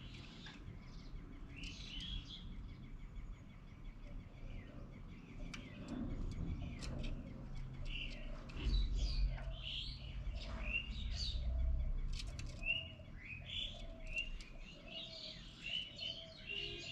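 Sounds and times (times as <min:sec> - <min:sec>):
steady low hum: 0:00.0 - 0:14.8
birds chirping: 0:00.0 - 0:16.9.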